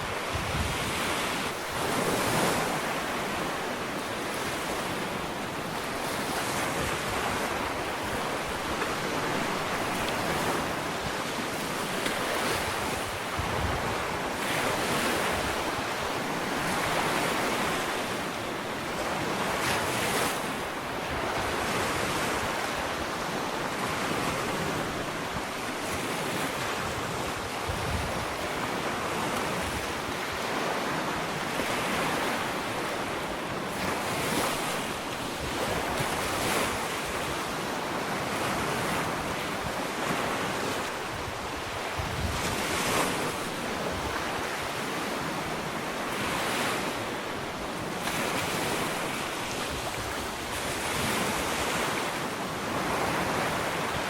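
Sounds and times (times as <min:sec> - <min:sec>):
ocean waves washing on beach: 0:00.0 - 0:54.0.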